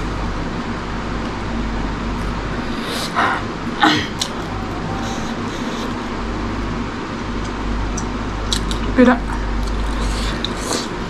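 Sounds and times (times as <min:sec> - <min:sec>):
steady background rumble and hiss: 0:00.0 - 0:11.0.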